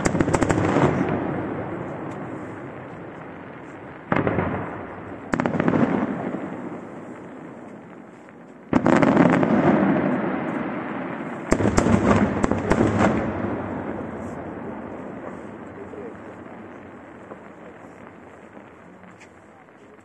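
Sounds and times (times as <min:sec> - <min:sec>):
firework bangs: 0:00.0 - 0:20.0.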